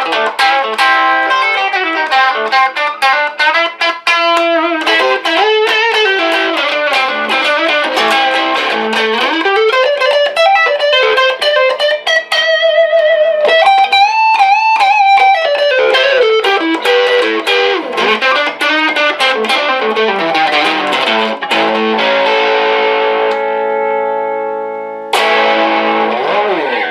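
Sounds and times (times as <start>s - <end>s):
electric guitar chord ringing: 0.0s - 26.9s
electric guitar lead line: 0.0s - 26.9s.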